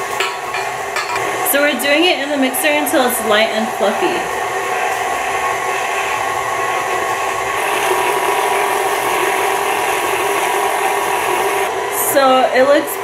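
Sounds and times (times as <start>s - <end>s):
stand mixer running: 0.0s - 12.7s.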